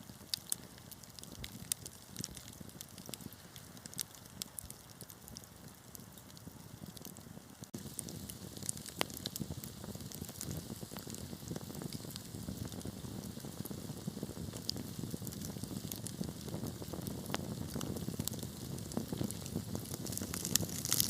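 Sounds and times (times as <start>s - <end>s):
fire burning rumble: 0.0s - 21.0s
fire pops and snaps: 0.0s - 21.0s.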